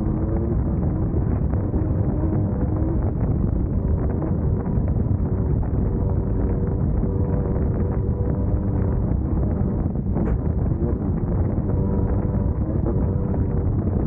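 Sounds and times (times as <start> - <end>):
buggy engine running: 0.0 - 14.0
wind noise: 0.0 - 14.0.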